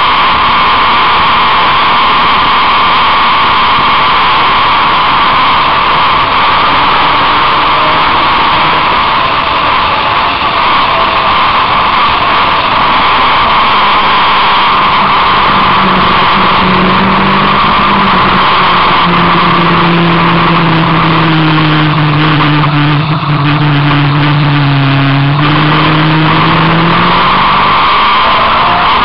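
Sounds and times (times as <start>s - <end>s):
steady rushing noise: 0.0s - 29.0s
vehicle engine at speed: 0.0s - 29.0s.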